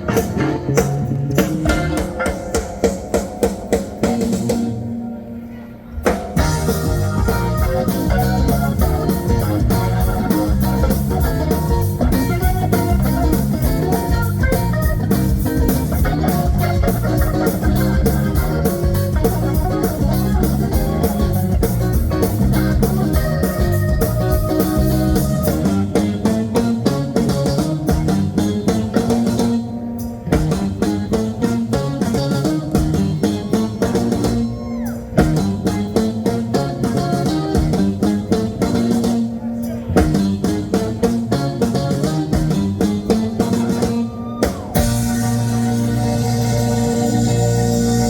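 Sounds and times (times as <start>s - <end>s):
blues band playing: 0.0s - 48.0s.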